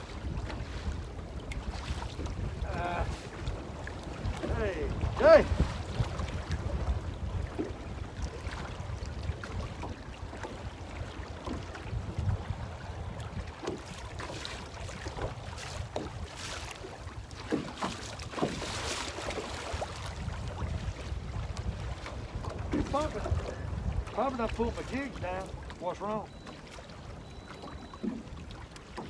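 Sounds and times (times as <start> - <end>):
wind buffeting microphone: 0.0 - 25.8.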